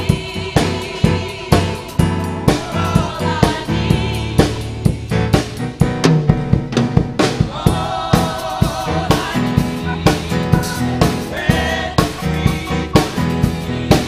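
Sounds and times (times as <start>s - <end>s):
gospel singers singing: 0.0s - 5.6s, 7.2s - 14.0s
drums keeping a beat: 0.0s - 14.0s
sustained bass notes: 0.0s - 14.0s.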